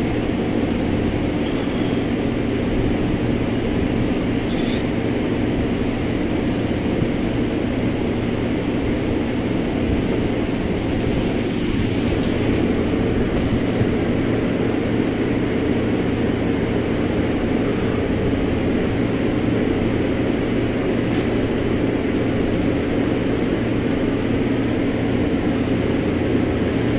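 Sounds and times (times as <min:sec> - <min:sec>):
machine drone: 0:00.0 - 0:26.9.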